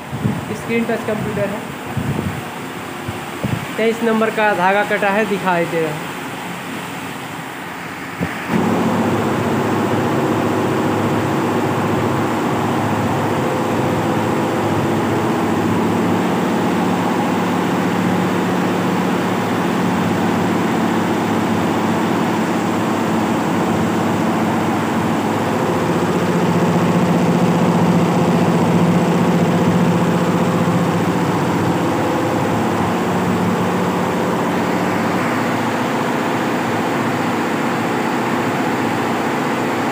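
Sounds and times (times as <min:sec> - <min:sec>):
embroidery machine running: 0:00.0 - 0:39.9.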